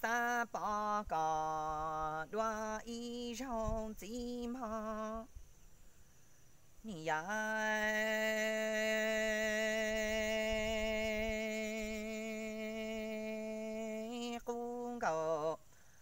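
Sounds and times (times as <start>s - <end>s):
person singing unaccompanied: 0.0s - 16.0s.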